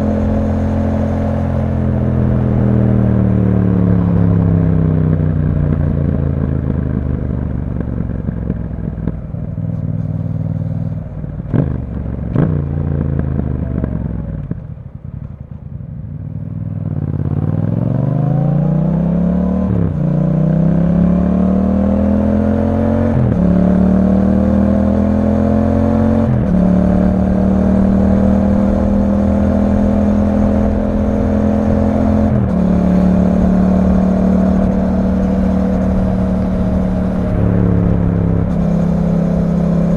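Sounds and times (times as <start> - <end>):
exhaust cracks: 0.0 - 15.9, 23.0 - 39.9
motorcycle engine revving: 0.0 - 39.9.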